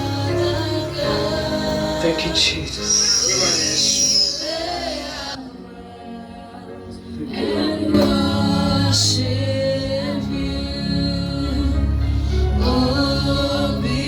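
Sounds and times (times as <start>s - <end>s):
gospel worship singing: 0.0s - 14.0s.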